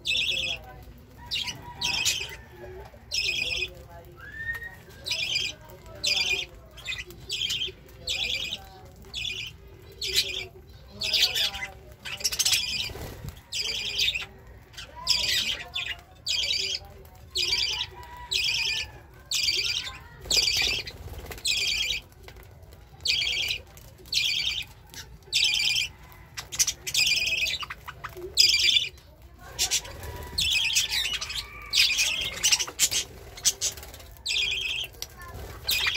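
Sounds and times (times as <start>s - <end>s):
soft bird chatter: 0.0s - 35.9s.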